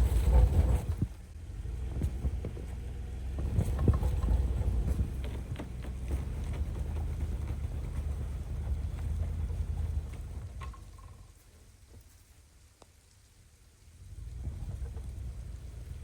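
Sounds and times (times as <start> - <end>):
engine and drivetrain rumble: 0.0 - 12.1, 13.8 - 16.0.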